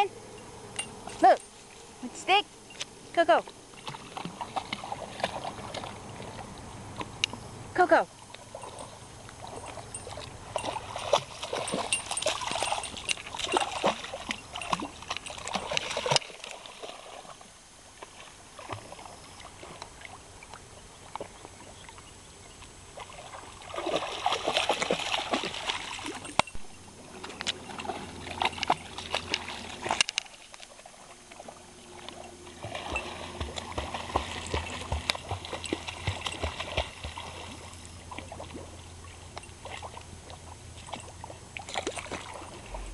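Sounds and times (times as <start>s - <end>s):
puppy splashing through water: 3.4s - 7.5s, 8.1s - 22.1s, 22.9s - 42.9s.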